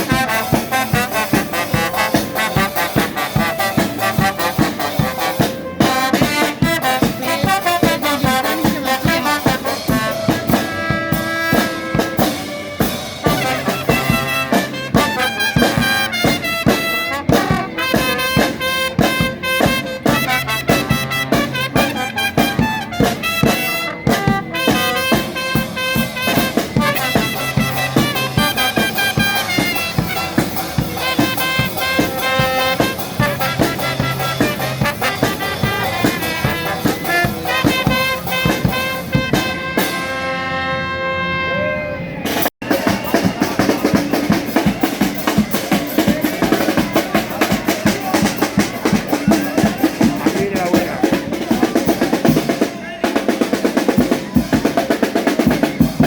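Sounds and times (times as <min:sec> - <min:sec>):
drums steady beat: 0:00.0 - 0:40.6, 0:42.2 - 0:56.0
brass band playing lively tune: 0:00.0 - 0:56.0.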